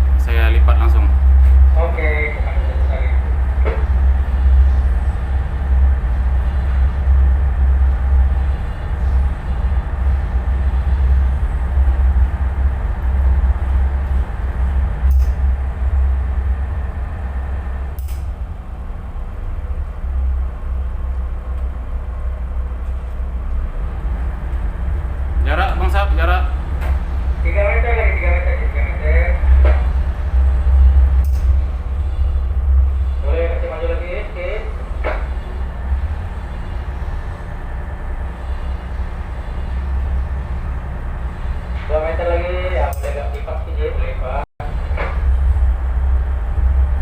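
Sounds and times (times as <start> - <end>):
boat diesel engine rumbling: 0.0 - 47.0.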